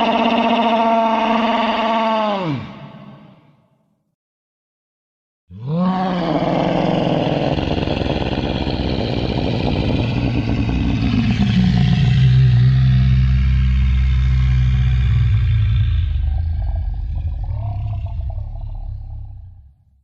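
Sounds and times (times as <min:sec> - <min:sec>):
dinosaur bellow: 0:00.0 - 0:03.6, 0:05.5 - 0:19.8.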